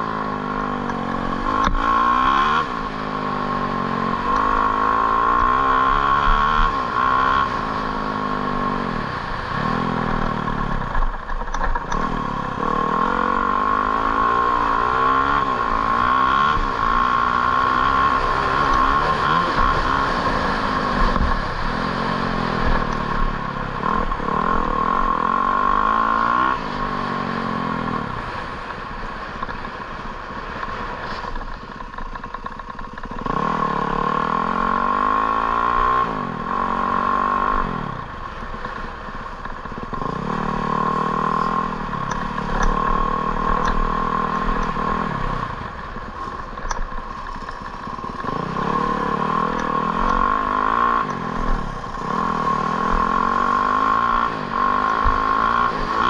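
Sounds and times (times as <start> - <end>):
engine revving: 0.0 - 28.5, 32.6 - 38.8, 39.7 - 56.0.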